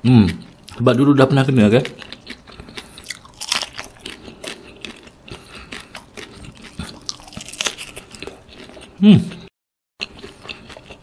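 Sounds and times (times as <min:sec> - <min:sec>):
crunchy chewing: 0:01.7 - 0:11.0.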